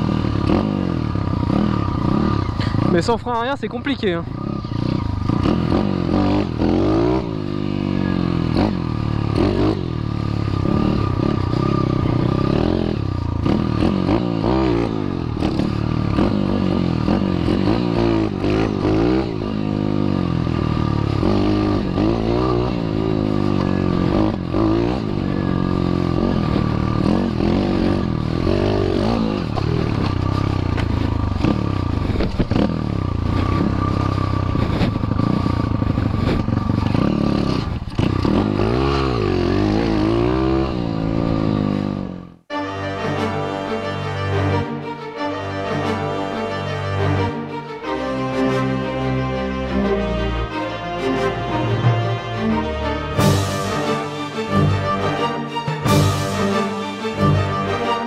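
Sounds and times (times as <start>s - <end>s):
dirt bike engine revving: 0.0s - 42.4s, 50.8s - 58.0s.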